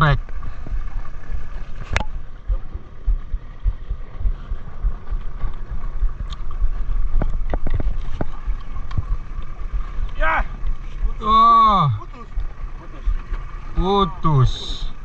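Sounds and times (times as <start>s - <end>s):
faint steady hum: 0.0s - 15.0s
wind rumbling on microphone: 0.0s - 15.0s.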